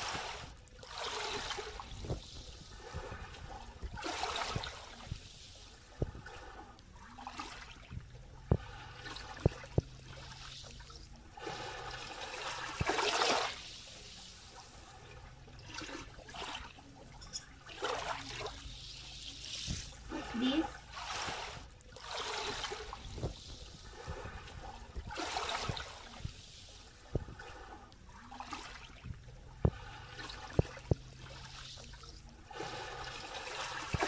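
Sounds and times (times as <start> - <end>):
small waves lapping on sand: 0.0 - 17.0, 17.6 - 34.0.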